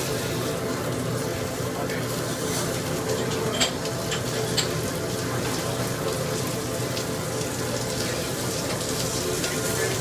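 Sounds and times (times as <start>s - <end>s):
food sizzling in pans: 0.0s - 10.0s.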